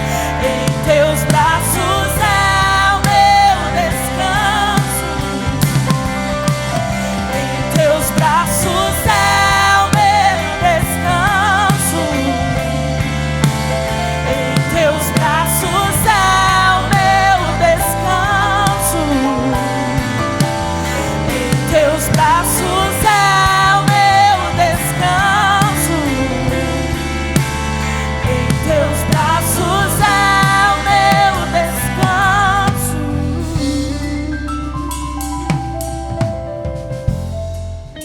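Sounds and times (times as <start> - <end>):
slow worship band song: 0.0 - 38.0.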